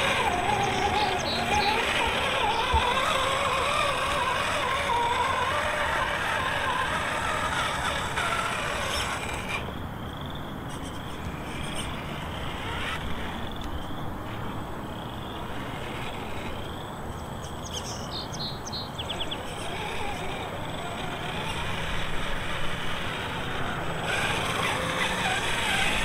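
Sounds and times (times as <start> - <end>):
toy car electric motor whining: 0.0 - 26.0.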